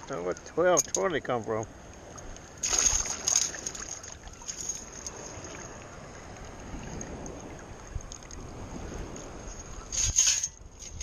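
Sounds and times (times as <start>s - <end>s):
shallow water sloshing: 0.0s - 11.0s.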